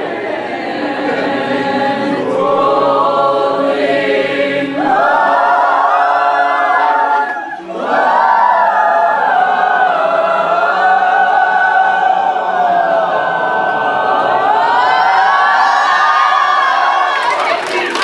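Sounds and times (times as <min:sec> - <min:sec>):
choir singing in harmony: 0:00.0 - 0:18.0.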